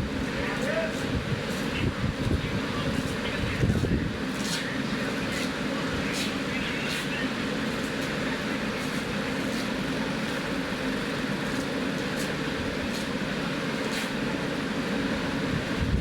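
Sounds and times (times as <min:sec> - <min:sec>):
steady mechanical rumble: 0:00.0 - 0:16.0.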